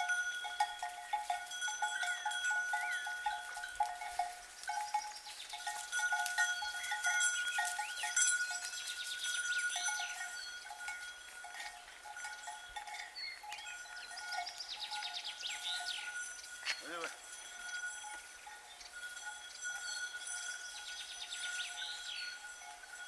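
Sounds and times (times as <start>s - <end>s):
cowbells clanking: 0.0s - 23.0s.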